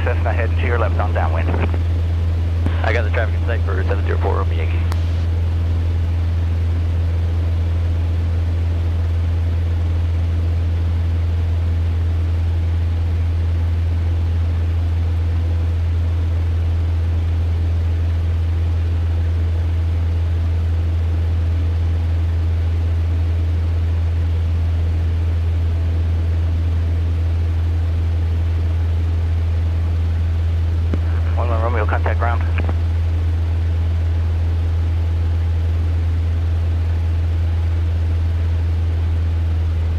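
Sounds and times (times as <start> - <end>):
airplane engine droning in cabin: 0.0 - 39.9.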